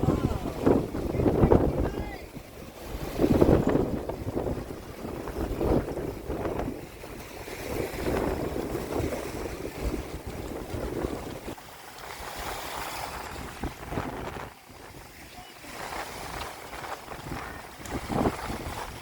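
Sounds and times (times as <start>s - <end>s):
waves rushing: 0.0s - 19.0s
wind buffeting microphone: 0.0s - 19.0s.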